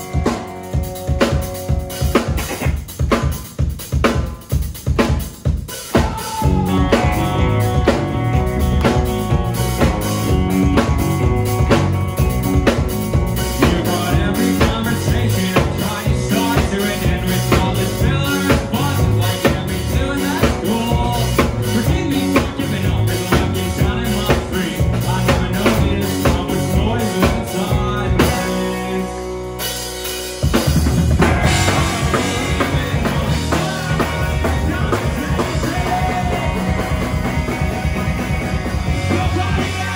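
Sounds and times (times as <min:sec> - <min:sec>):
driving drum beat: 0:00.0 - 0:39.9
live rock band playing: 0:00.0 - 0:39.9.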